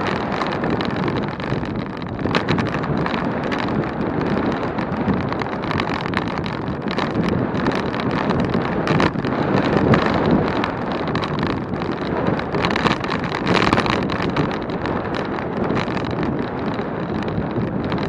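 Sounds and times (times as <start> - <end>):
bicycle clicks and rattles: 0.0 - 18.0
wind rushing over microphone: 0.0 - 18.0.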